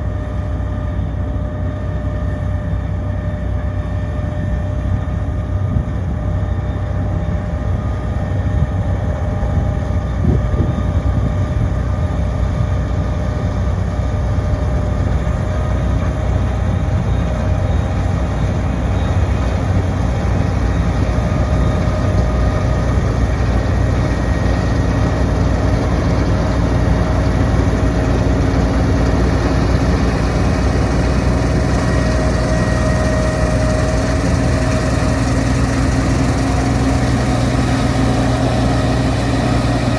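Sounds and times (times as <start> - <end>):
combine harvester diesel drone: 0.0 - 39.9
machinery whining: 2.2 - 39.9.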